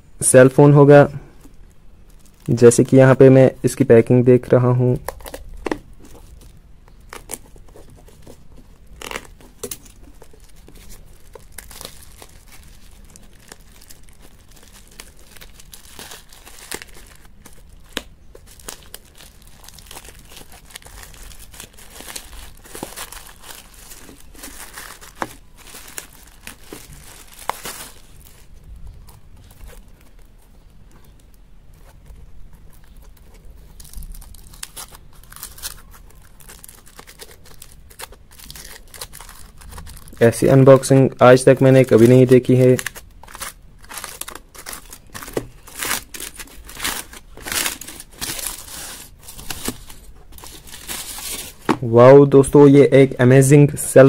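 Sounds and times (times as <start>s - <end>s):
aluminium foil crinkling: 1.4s - 3.8s, 4.9s - 51.8s
plastic wrapping crinkling and tearing: 1.4s - 51.9s.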